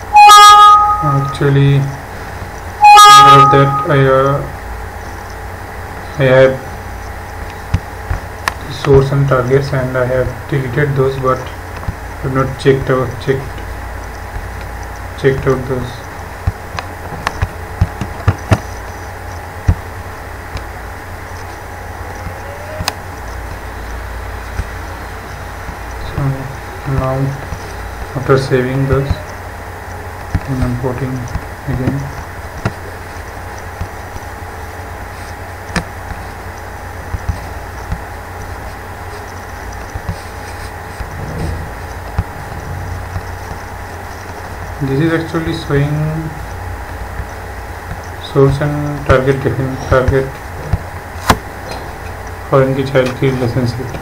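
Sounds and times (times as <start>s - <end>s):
low hum and hiss: 0.0s - 54.0s.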